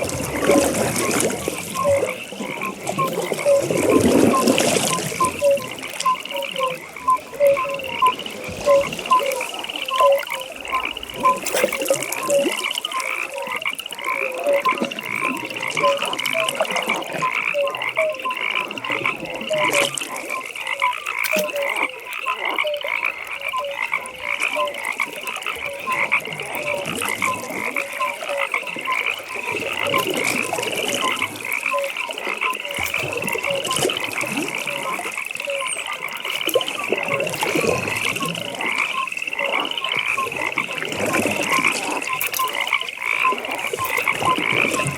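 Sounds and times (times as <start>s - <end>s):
frogs croaking: 0.0s - 44.9s.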